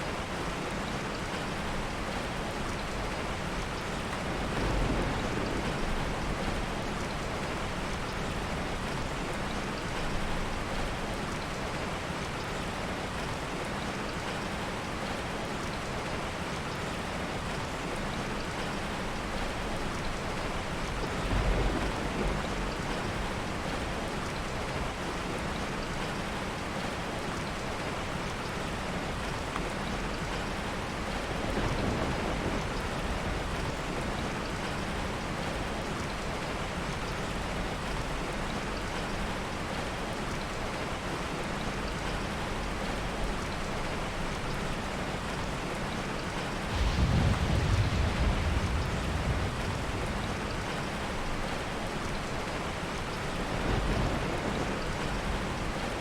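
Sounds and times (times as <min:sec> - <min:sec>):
heavy rain falling: 0:00.0 - 0:56.0
soft thunder rumbles: 0:01.0 - 0:12.2, 0:15.1 - 0:26.4, 0:28.9 - 0:40.8, 0:41.6 - 0:56.0.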